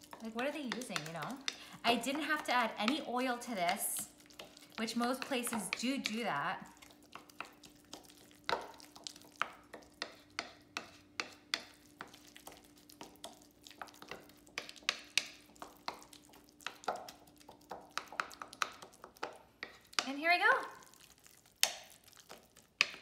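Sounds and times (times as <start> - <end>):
spatula mashing in bowl: 0.0 - 23.0.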